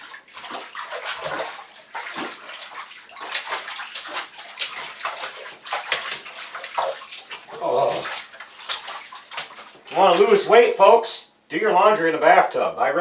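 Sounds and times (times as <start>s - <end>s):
wet laundry sloshing in water: 0.0s - 10.7s.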